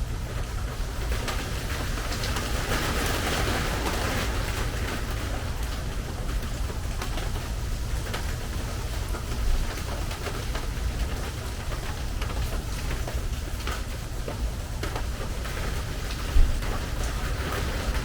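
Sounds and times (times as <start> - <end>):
rain on a metal roof: 0.0 - 18.0.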